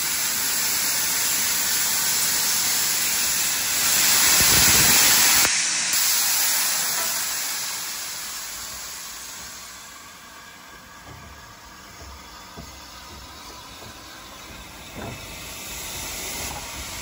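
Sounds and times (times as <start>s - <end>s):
passing train rushing hiss: 0.0s - 17.0s.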